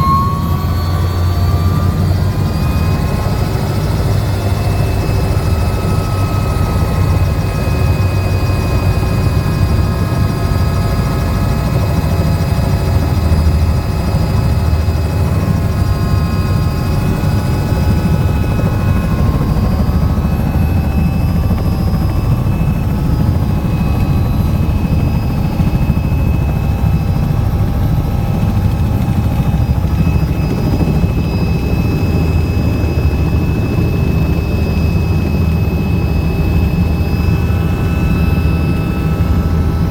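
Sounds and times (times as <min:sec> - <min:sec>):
thin whining tones: 0:00.0 - 0:10.3, 0:12.5 - 0:39.8
helicopter rotor and engine drone: 0:00.0 - 0:39.9.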